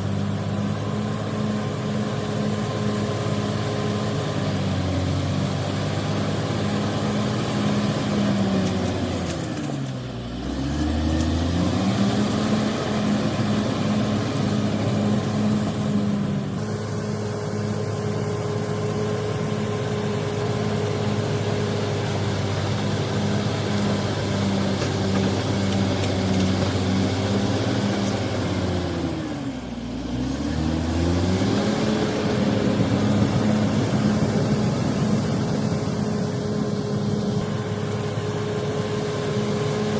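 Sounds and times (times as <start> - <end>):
heavy diesel engine running hard: 0.0 - 39.9.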